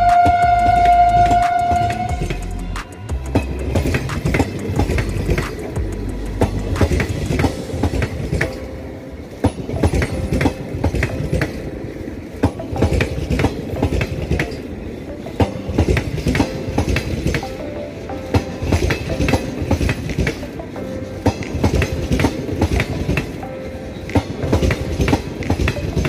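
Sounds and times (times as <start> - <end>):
train wheels clattering over rail joints: 3.3 - 17.6, 18.3 - 23.4, 24.1 - 26.0.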